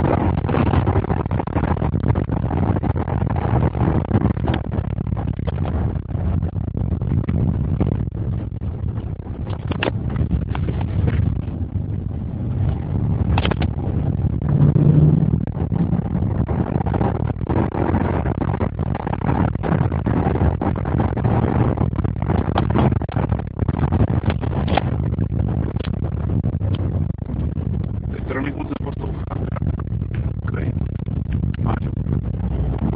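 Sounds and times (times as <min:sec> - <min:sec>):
car engine running while driving: 0:00.0 - 0:32.9.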